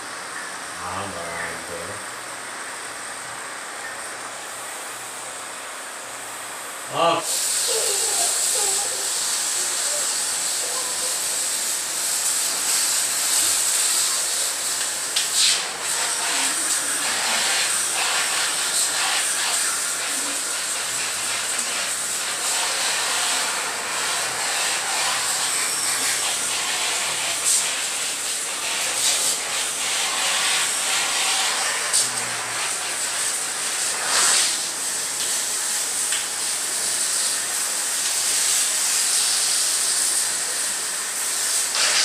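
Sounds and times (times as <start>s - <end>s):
high-pressure water jet hissing: 6.9s - 42.0s.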